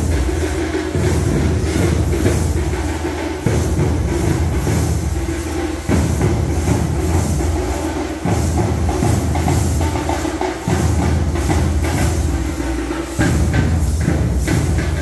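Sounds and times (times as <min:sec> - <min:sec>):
clattering percussion: 0:00.0 - 0:15.0
heavy drum beats: 0:00.0 - 0:15.0.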